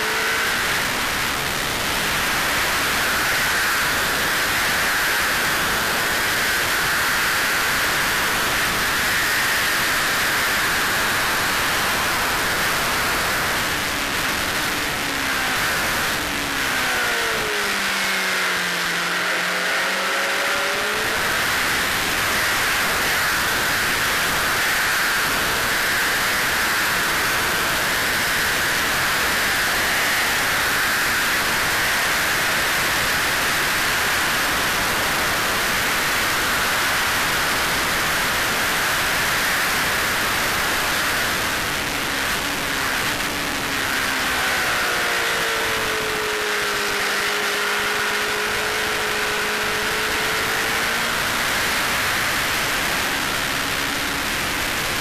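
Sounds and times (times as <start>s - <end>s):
motorcycle engine running hard: 0.0s - 55.0s.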